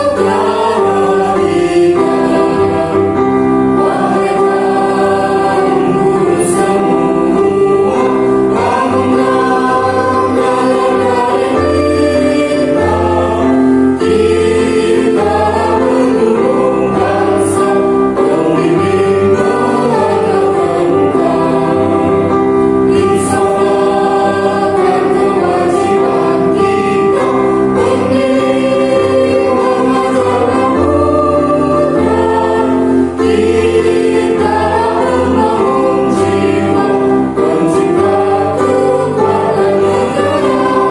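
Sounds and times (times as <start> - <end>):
choir singing: 0.0 - 40.9
instrumental accompaniment: 0.0 - 40.9.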